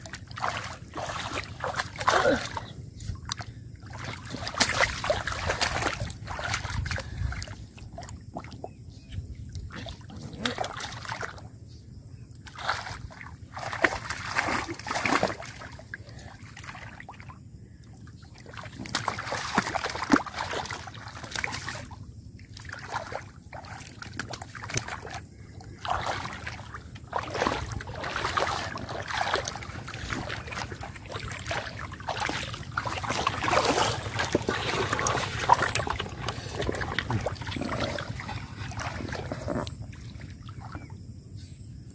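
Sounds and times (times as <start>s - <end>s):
muddy water splashing: 0.0s - 11.7s, 12.3s - 41.2s.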